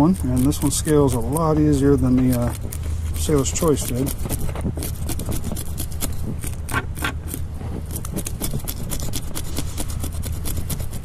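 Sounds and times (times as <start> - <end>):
spoon scraping fish scales: 0.0 - 11.0
steady low hum: 0.0 - 11.0.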